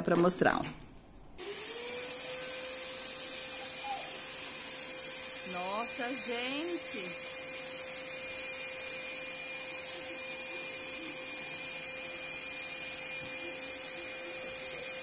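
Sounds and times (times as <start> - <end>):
vacuum cleaner motor whine: 1.4 - 15.0.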